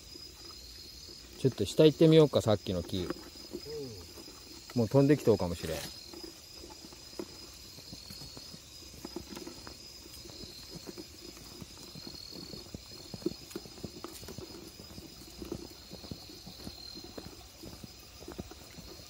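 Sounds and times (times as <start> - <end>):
footsteps on wet dirt trail: 0.0 - 19.0
insects trilling: 0.0 - 19.0.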